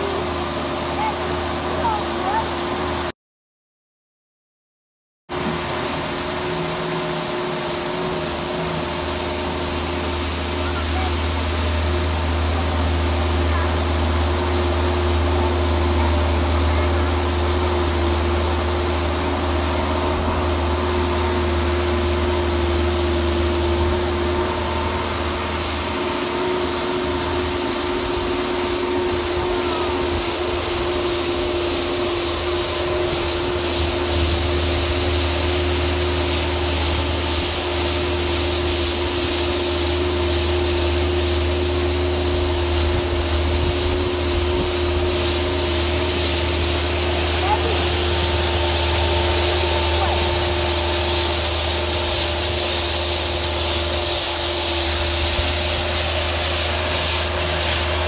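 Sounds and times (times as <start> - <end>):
loader engine hum: 0.0 - 3.1, 5.4 - 58.0
rotary broom sweeping snow: 0.0 - 3.1, 5.4 - 58.0.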